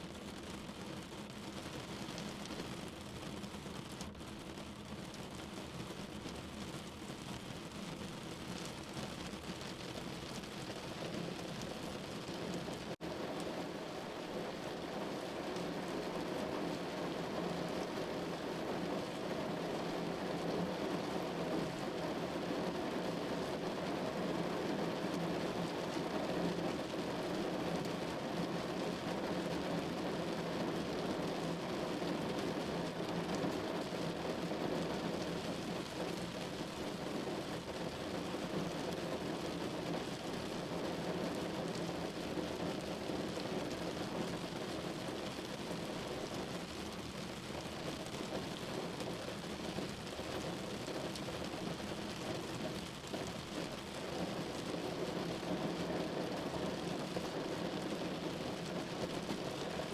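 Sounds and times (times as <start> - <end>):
rain on window pane: 0.0 - 59.9.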